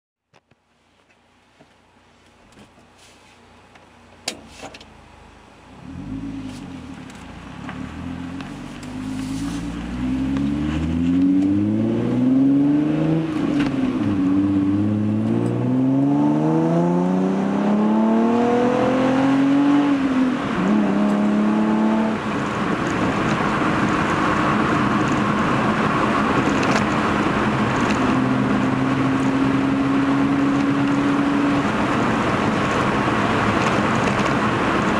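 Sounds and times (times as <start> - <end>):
road noise: 0.2 - 34.9
car engine revving: 5.7 - 34.9.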